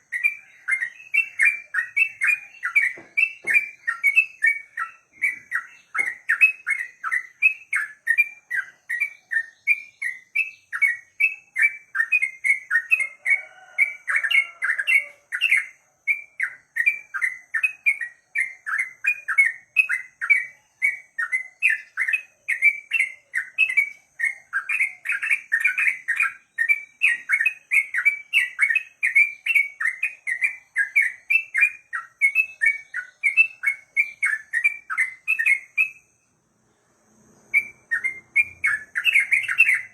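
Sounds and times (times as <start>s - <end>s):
bird singing repeated chirps: 0.0s - 39.9s.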